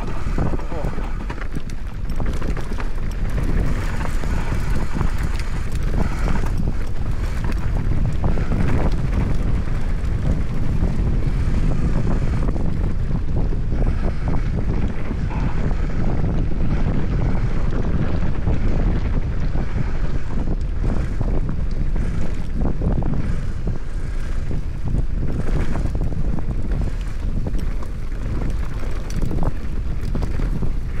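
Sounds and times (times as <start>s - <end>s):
bike clattering over rough trail: 0.0s - 31.0s
wind rushing over microphone: 0.0s - 31.0s.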